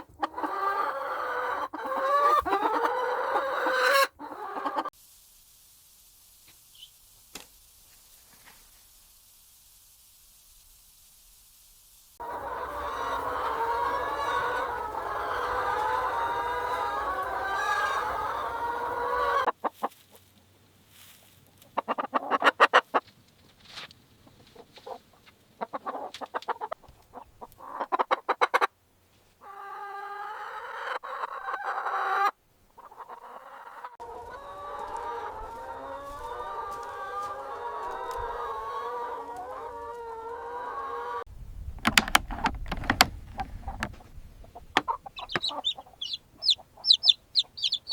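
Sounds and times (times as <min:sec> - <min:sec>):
chickens clucking: 0:00.0 - 0:04.9, 0:12.2 - 0:23.2, 0:24.2 - 0:47.9.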